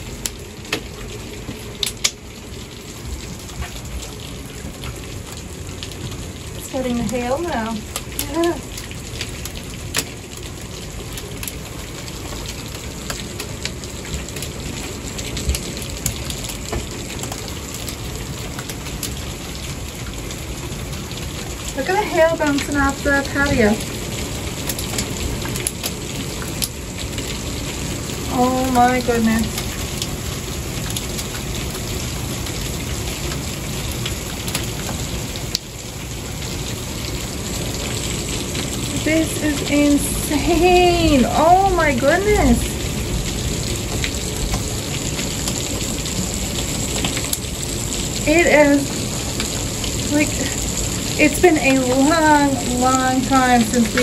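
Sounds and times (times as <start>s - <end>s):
hailstones ticking on wood: 0.0s - 54.0s
heavy rain hissing: 0.0s - 54.0s.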